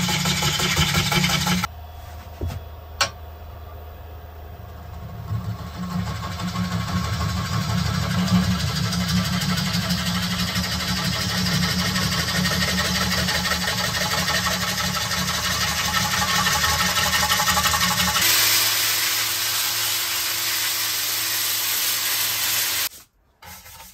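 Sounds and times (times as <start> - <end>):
turning tool cutting wood: 0.0 - 1.7, 4.8 - 22.9.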